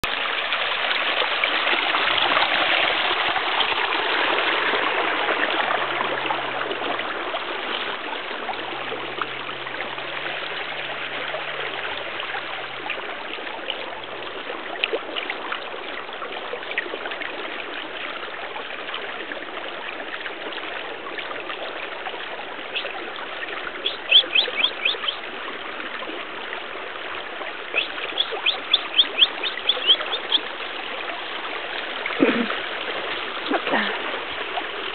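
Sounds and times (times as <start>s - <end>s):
trickling stream water: 0.0s - 34.9s.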